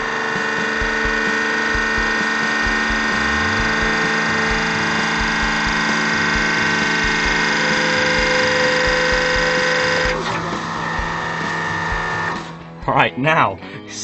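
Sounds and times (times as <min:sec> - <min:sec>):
hydraulic press whine and hum: 0:00.0 - 0:12.7.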